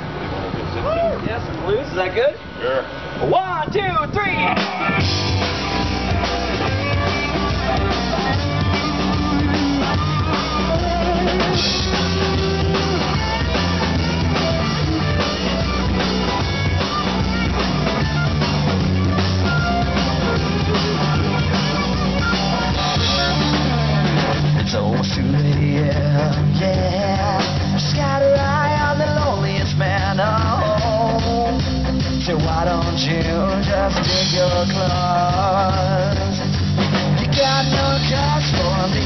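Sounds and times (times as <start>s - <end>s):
bass guitar: 0.0s - 39.0s
electric guitar: 4.0s - 39.0s
drum kit beat: 4.2s - 39.0s.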